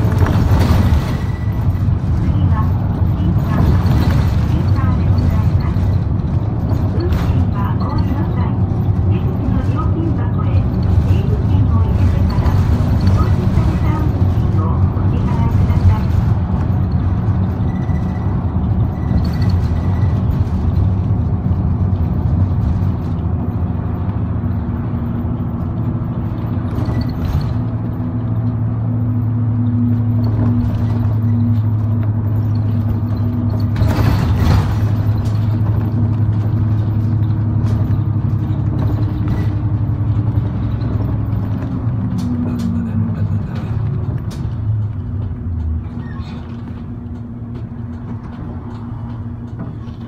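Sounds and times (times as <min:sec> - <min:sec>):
bus engine hum: 0:00.0 - 0:50.0
road noise: 0:00.0 - 0:50.0.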